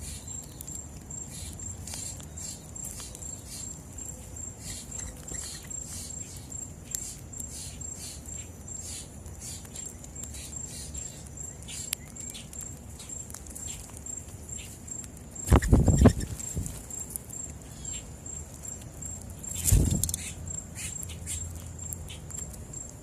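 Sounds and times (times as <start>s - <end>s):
insect trill: 0.0s - 23.0s.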